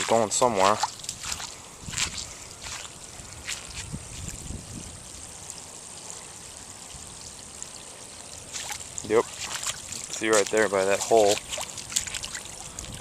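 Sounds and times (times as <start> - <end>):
water flowing into storm drain: 0.0 - 13.0.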